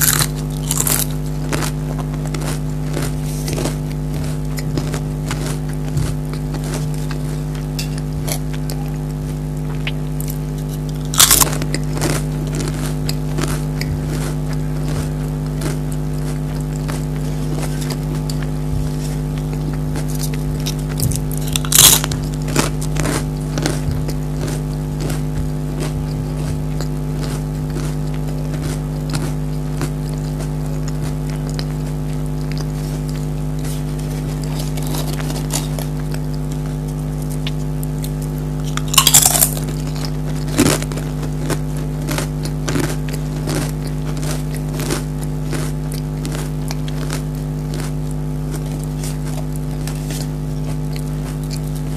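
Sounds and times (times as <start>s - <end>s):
crackling chews: 0.0s - 51.9s
potato crisps crunching: 0.0s - 51.9s
steady low hum: 0.0s - 51.9s.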